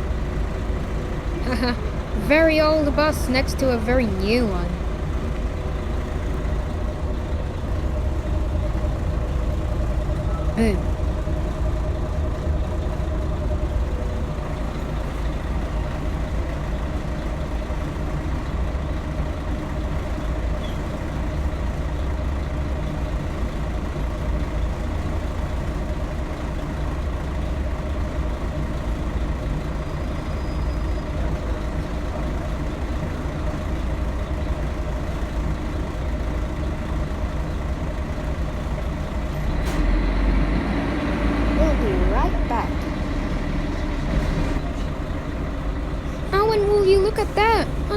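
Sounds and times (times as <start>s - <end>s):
bus engine droning: 0.0s - 47.9s.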